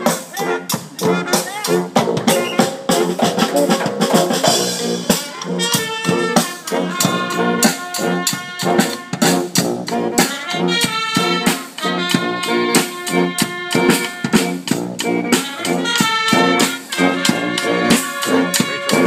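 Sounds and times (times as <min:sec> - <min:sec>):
brass marching band playing: 0:00.0 - 0:19.0.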